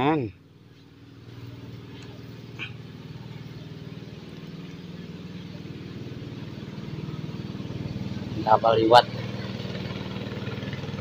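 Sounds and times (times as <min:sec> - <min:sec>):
boat engine throbbing: 0:00.0 - 0:11.0.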